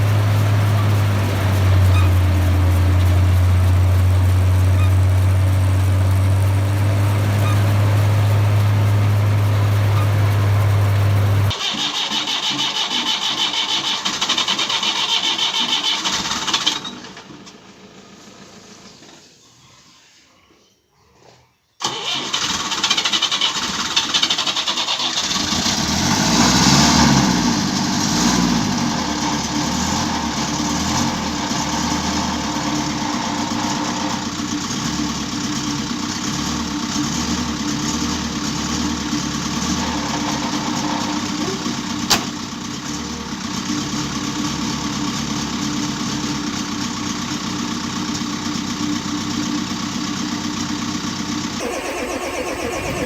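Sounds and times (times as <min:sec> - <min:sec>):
diesel engine starting and idling: 0:00.0 - 0:19.6, 0:21.8 - 0:53.0.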